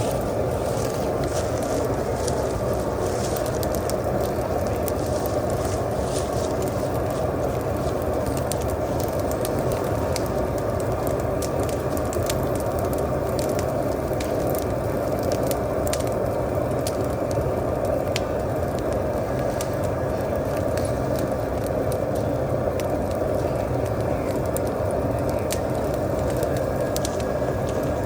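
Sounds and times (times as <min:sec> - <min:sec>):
burning brush pile crackling: 0:00.0 - 0:28.0.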